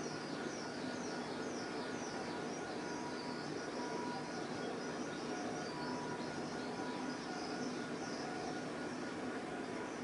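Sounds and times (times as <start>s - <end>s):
faint steady hum tones: 0.0s - 10.0s.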